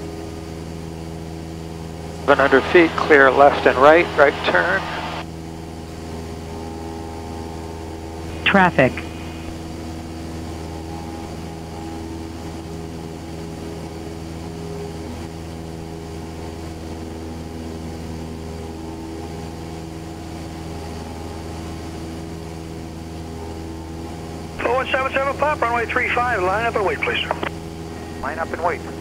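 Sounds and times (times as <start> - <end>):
propeller plane engine droning: 0.0 - 29.0.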